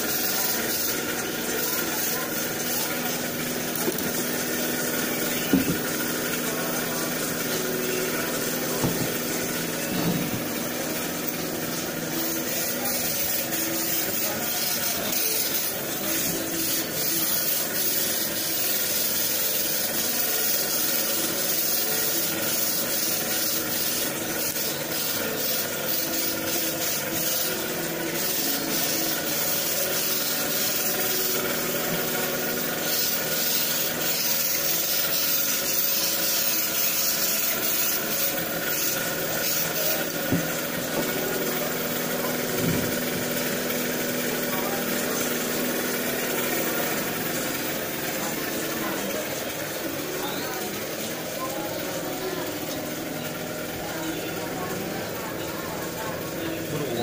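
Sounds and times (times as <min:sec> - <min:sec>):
motor humming: 0:00.0 - 0:57.0.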